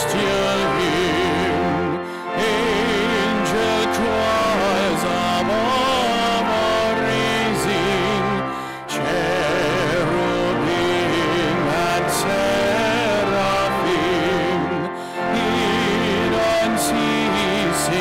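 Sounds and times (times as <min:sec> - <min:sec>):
person singing a hymn with vibrato: 0:00.0 - 0:18.0
sustained accompanying notes: 0:00.0 - 0:18.0.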